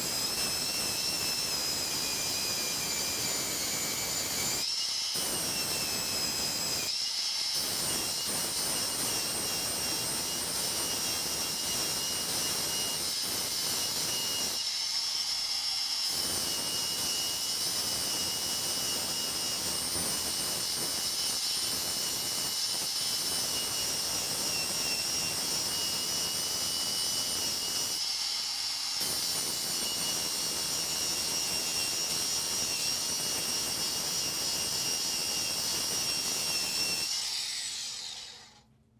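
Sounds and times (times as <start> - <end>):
angle grinder motor whine: 0.0 - 38.7.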